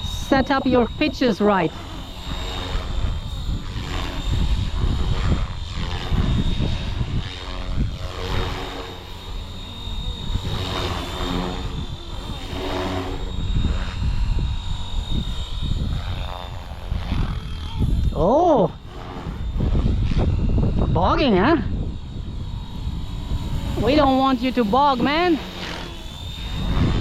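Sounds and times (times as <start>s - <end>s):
rc helicopter rotor and motor: 0.0s - 27.0s
wind buffeting microphone: 0.0s - 27.0s.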